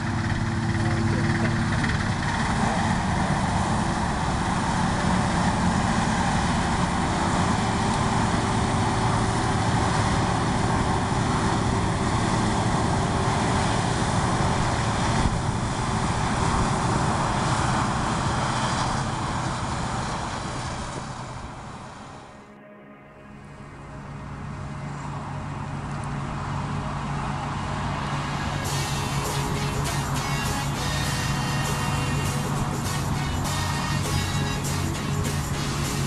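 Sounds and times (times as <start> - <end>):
dense rushing noise: 0.0 - 25.9, 26.6 - 36.0
diesel engine droning under load: 0.0 - 36.0.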